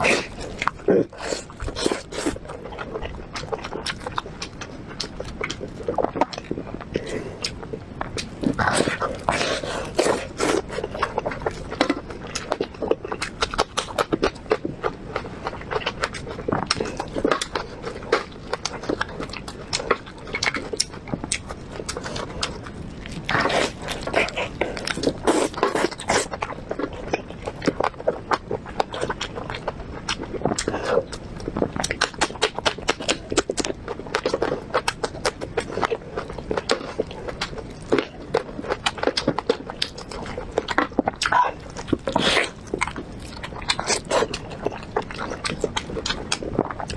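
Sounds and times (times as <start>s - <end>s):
person chewing ribs: 0.0s - 46.9s.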